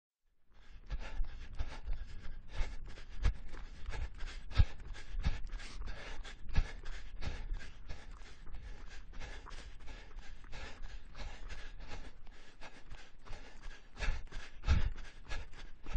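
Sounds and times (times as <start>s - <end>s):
person panting: 0.5s - 15.9s.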